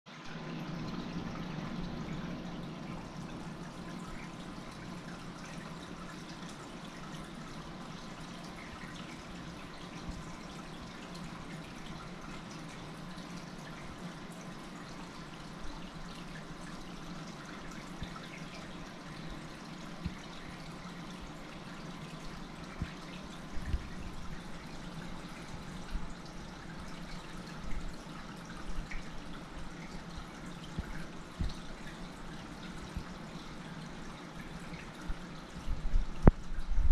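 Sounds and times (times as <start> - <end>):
water trickling into tank: 0.2 - 36.9.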